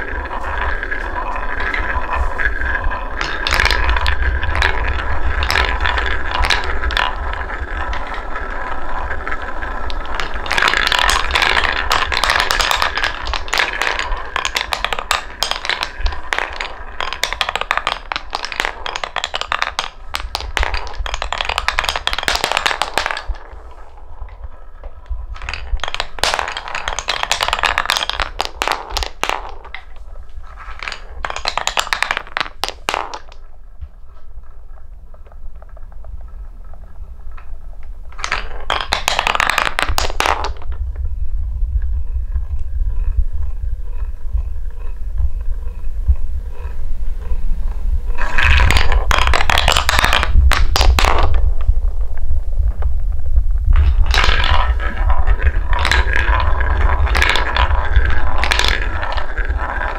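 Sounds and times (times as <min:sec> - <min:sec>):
balls clattering on wooden track: 0:00.0 - 0:59.9
balls rolling in wooden bowl: 0:00.0 - 0:59.9.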